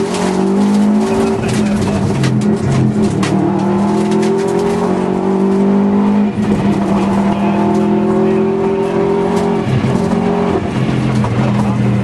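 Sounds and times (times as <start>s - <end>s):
car engine under full throttle: 0.0s - 12.0s.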